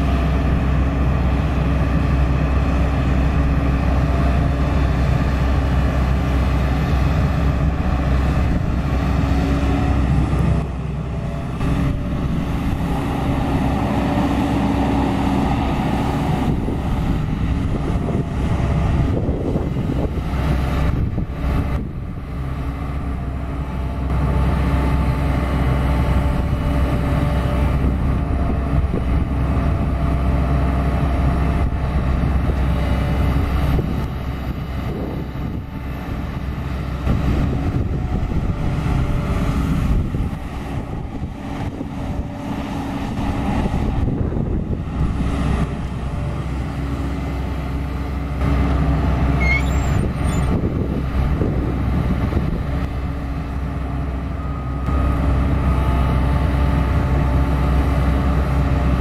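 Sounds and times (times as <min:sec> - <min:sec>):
diesel engine running: 0:00.0 - 0:59.0
excavator digging soil: 0:00.0 - 0:59.0.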